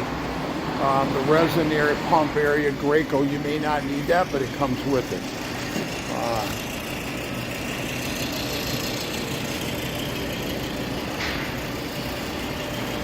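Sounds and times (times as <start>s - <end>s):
industrial machinery humming: 0.0s - 13.0s.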